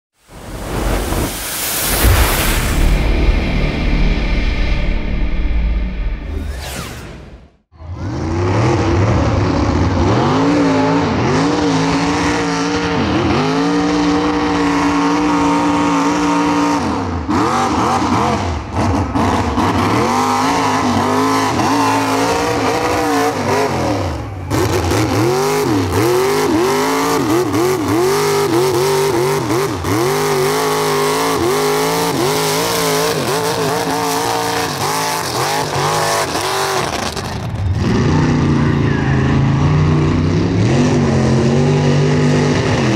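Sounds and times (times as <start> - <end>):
truck engines revving: 0.4 - 42.9.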